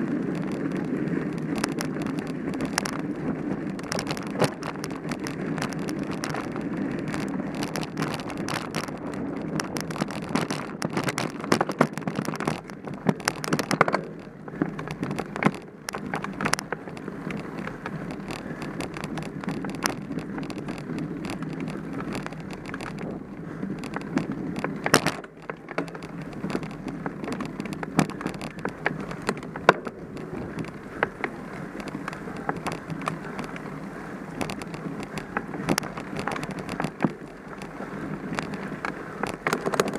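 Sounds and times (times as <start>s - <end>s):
bike rattling over bumps: 0.0s - 39.9s
mountain bike tyre noise: 0.0s - 39.9s.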